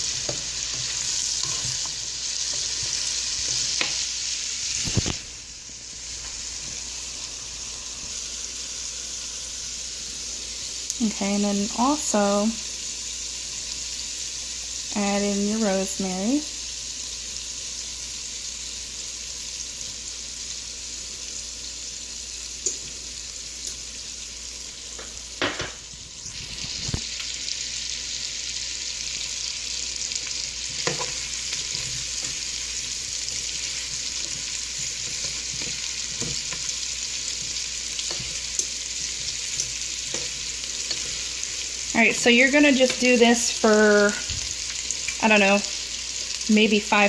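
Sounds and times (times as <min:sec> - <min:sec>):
potatoes sizzling in a pan: 0:00.0 - 0:47.0.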